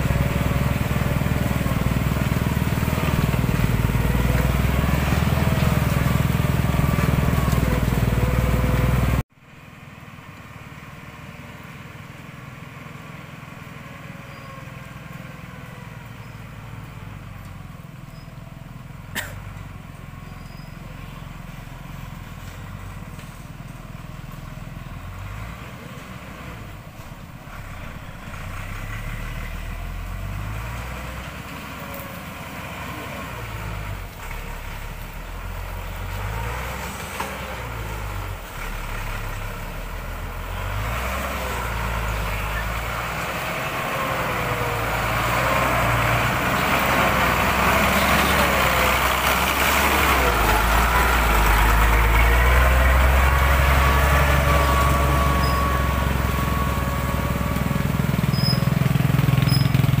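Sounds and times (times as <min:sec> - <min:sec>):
truck engine: 0:00.0 - 1:00.0.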